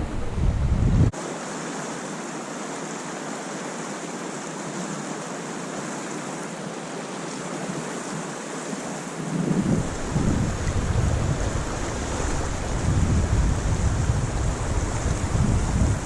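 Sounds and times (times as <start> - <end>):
creek water rushing: 1.1 - 16.0.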